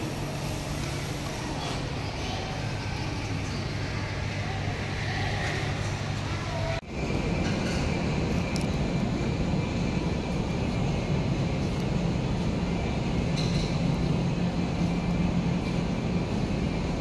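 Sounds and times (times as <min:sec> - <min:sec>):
indoor background drone: 0:00.0 - 0:17.0
steady hum: 0:00.0 - 0:17.0.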